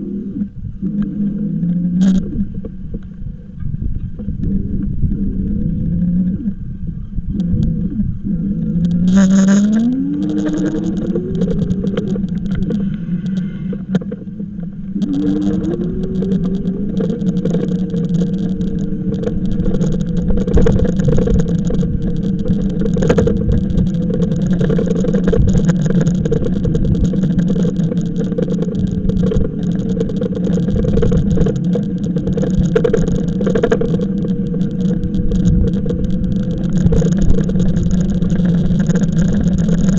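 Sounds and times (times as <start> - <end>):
wind rumble on microphone: 0.0 - 39.9
electric bike motor whining: 4.4 - 39.9.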